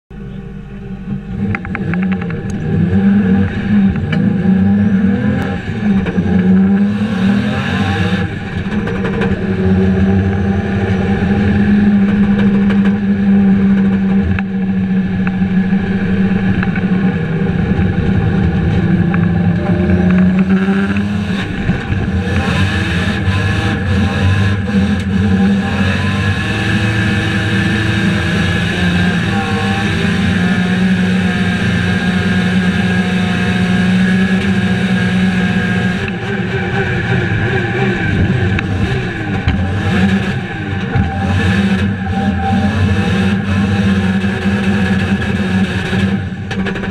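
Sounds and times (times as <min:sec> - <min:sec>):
car engine revving hard: 0:01.2 - 0:46.9.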